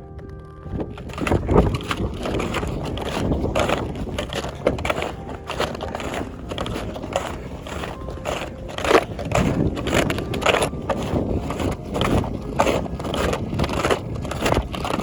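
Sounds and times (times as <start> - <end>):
footsteps crunching in snow: 0.2 - 15.0.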